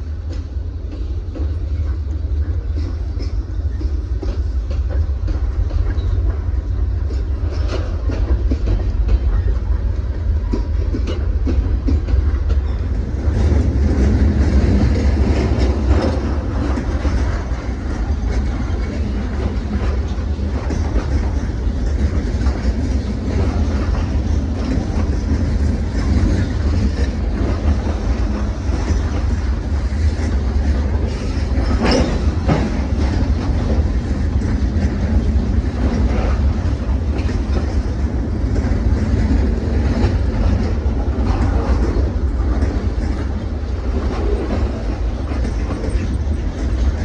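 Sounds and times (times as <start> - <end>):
freight train rumbling past: 0.0 - 47.0
train wheels clickety-clack: 0.0 - 47.0.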